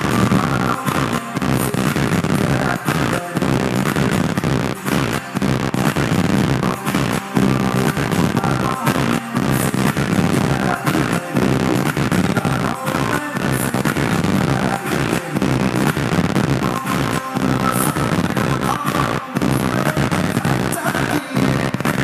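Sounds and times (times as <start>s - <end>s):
electronic dance music: 0.0s - 22.0s.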